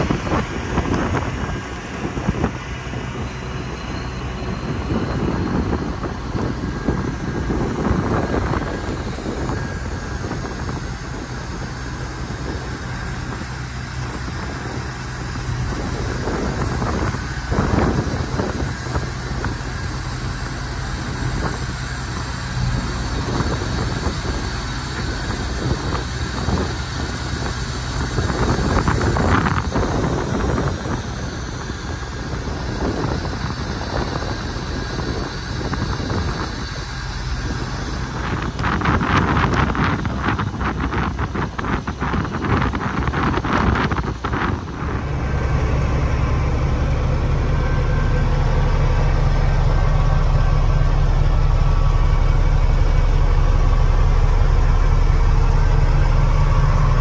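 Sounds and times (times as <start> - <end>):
truck diesel engine running: 0.0 - 57.0
wind buffeting microphone: 0.0 - 57.0.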